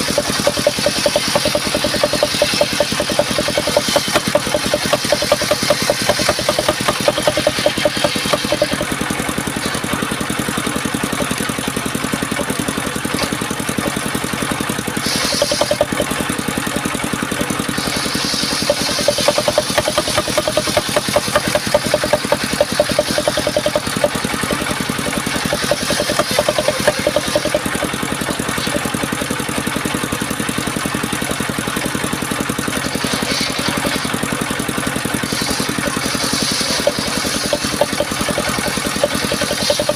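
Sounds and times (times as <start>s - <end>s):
circular saw running: 0.0s - 39.9s
saw blade cutting timber: 0.0s - 39.9s.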